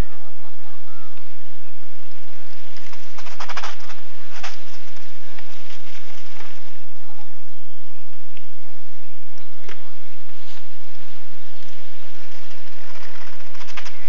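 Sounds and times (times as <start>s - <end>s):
mountain bike passing: 0.0s - 14.0s
steady hiss: 0.6s - 14.0s.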